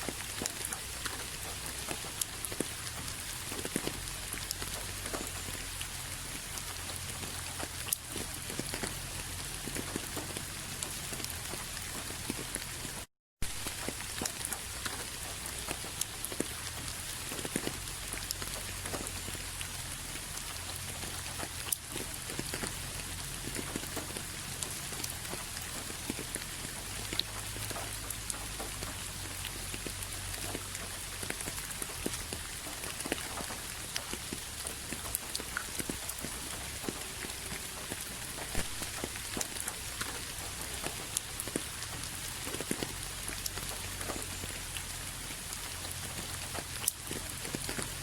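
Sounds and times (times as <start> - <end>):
raindrops tapping close by: 0.0 - 48.0
steady rain falling: 0.0 - 48.0.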